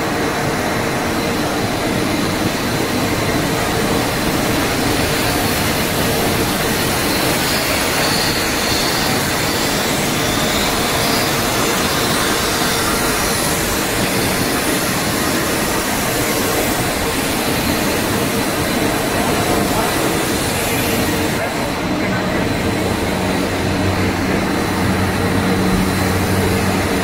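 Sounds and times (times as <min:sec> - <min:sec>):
production line machinery din: 0:00.0 - 0:27.0.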